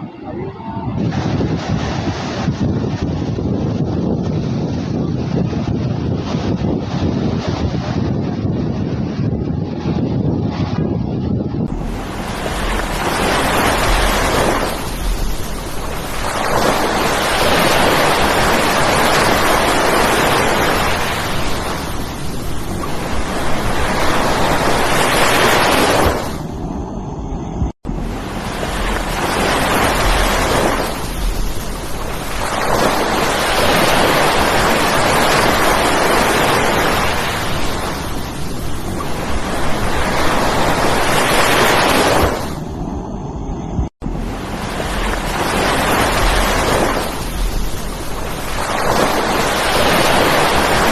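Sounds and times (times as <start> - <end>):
surf breaking on beach: 0.0 - 9.9, 11.7 - 26.9, 27.6 - 42.7, 44.0 - 50.9
wind buffeting microphone: 0.0 - 50.9.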